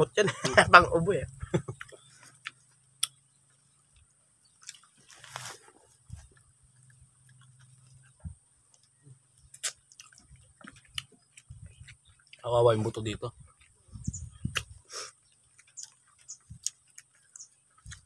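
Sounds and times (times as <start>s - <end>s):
people chewing ribs: 0.3s - 18.0s.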